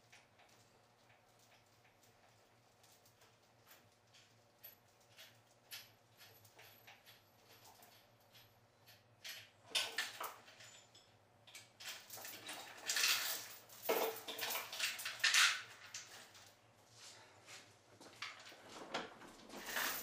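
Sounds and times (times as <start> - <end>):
metal chain clinking and rattling: 0.0 - 16.6, 19.3 - 20.0.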